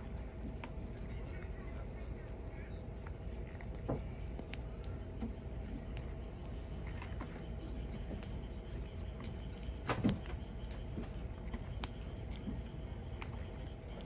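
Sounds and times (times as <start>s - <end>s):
fire crackling and popping: 2.4s - 14.0s.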